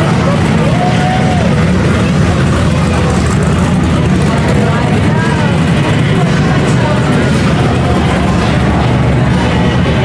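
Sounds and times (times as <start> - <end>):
muscle car engines rumbling: 0.0 - 10.0.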